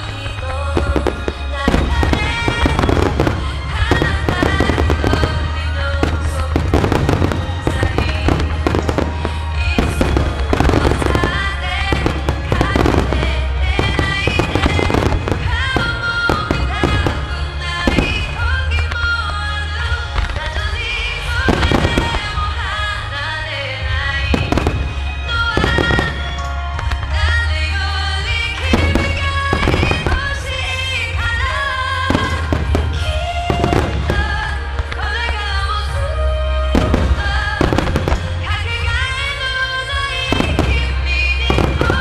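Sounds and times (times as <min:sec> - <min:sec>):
fireworks bursting with crackle: 0:00.0 - 0:42.0
music playing: 0:00.0 - 0:42.0.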